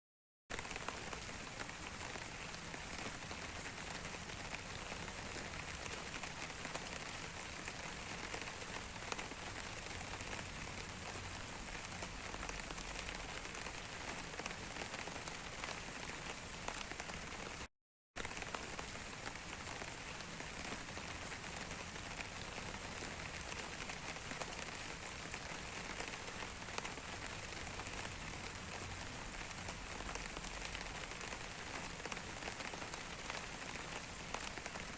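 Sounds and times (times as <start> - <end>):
steady rain falling: 0.5 - 34.9.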